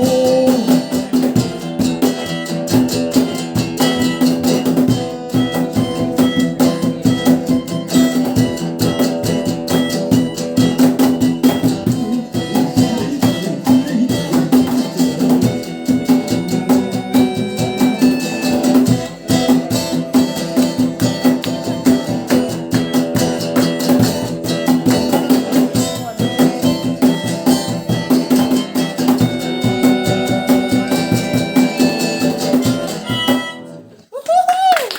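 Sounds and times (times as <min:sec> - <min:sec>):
rock band playing live: 0:00.0 - 0:34.0.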